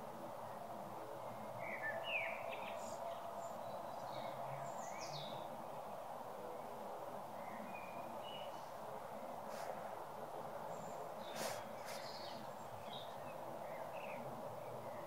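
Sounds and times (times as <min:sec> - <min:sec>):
outdoor background hum: 0:00.0 - 0:15.0
songbirds chirping: 0:00.0 - 0:15.0.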